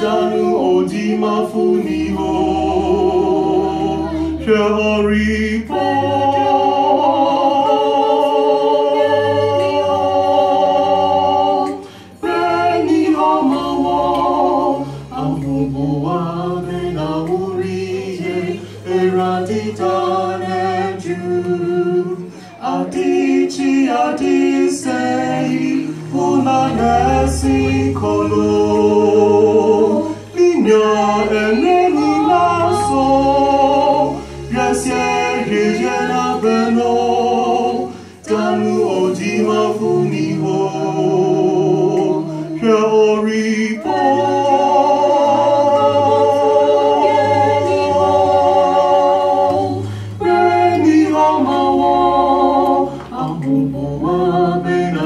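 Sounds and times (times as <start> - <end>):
low held notes: 0.0 - 55.0
man and woman singing gospel: 0.0 - 55.0.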